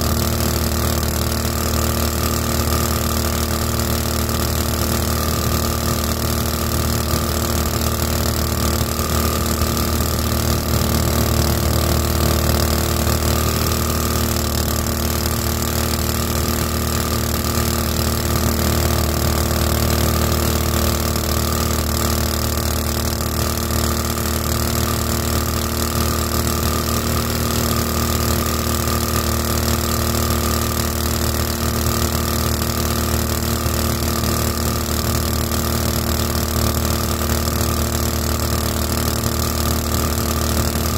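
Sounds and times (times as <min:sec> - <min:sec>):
boat motor running: 0:00.0 - 0:40.9.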